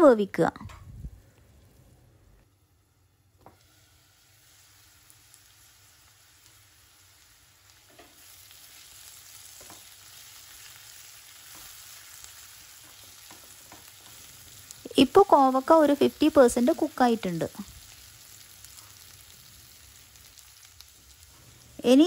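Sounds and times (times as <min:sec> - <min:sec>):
vegetables sizzling in oil: 0:02.5 - 0:22.0.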